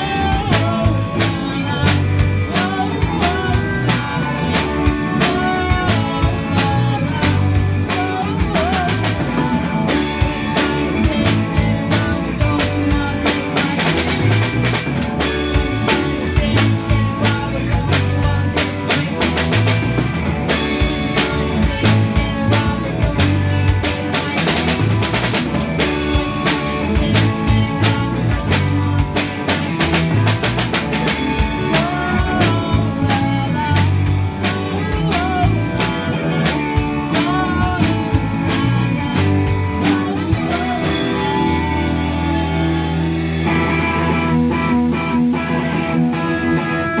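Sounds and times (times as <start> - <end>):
drum kit with cymbals: 0.0 - 47.0
guitar: 0.0 - 47.0.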